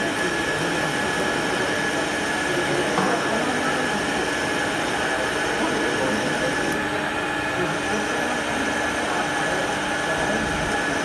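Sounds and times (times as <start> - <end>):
high machine whine: 0.0 - 11.0
lathe running: 0.0 - 11.0.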